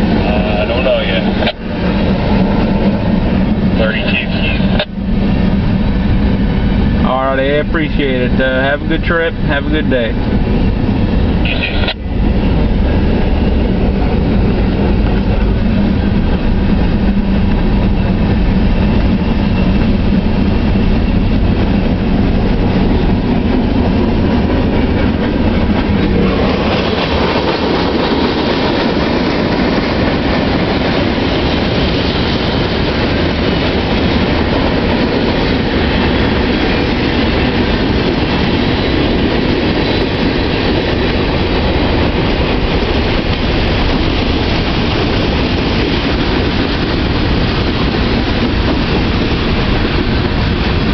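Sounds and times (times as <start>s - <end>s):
freight train wheels rumbling on rails: 0.0s - 50.9s.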